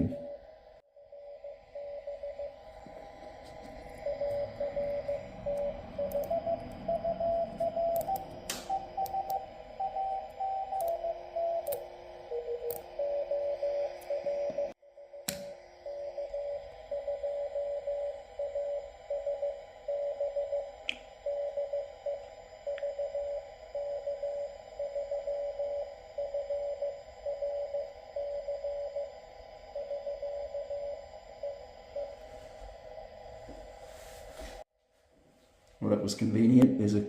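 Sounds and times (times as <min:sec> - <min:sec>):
morse code beep tone: 0:01.1 - 0:15.2, 0:15.8 - 0:32.3.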